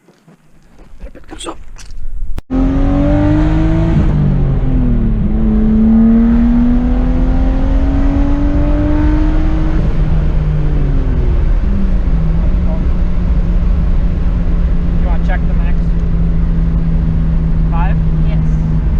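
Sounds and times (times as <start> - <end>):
turbocharged car engine under load: 2.1 - 18.9.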